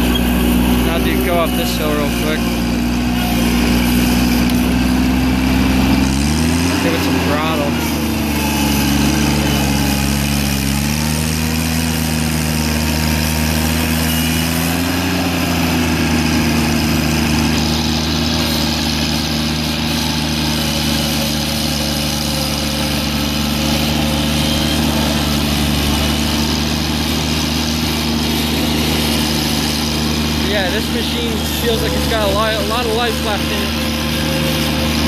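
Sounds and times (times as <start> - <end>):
garden tractor engine running: 0.0 - 35.0.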